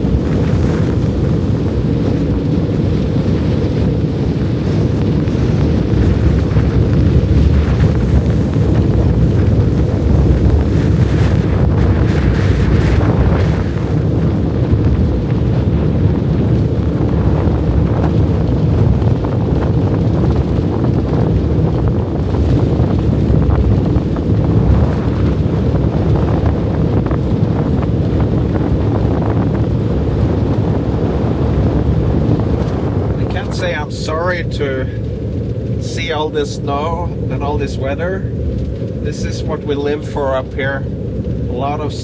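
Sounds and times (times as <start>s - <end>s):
blizzard wind blasting microphone: 0.0s - 42.0s.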